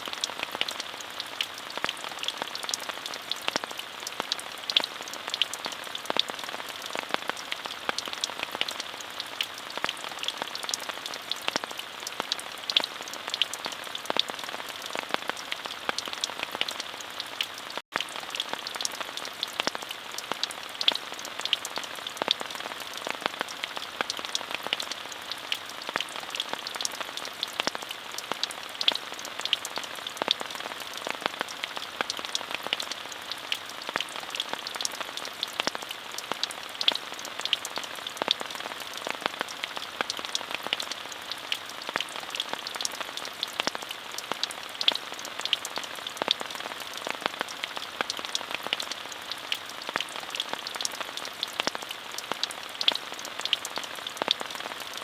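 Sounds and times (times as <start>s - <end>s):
raindrops ticking nearby: 0.0s - 55.0s
steady rain falling: 0.0s - 55.0s.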